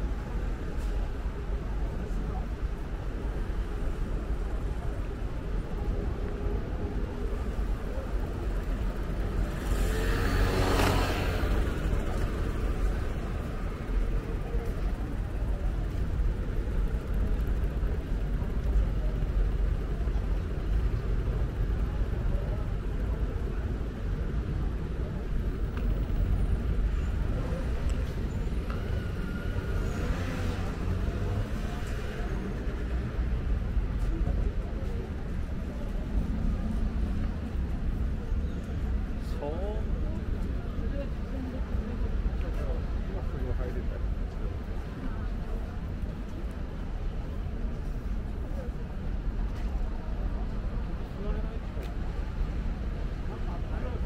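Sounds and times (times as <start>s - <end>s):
faint murmur of voices: 0.0s - 54.0s
low traffic rumble: 0.0s - 54.0s.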